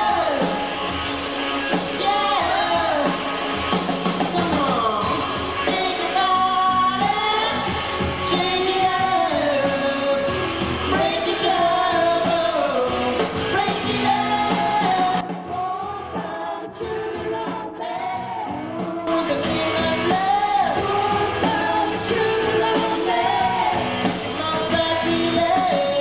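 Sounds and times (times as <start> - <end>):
lead singer singing: 0.0 - 26.0
live band playing: 0.0 - 26.0.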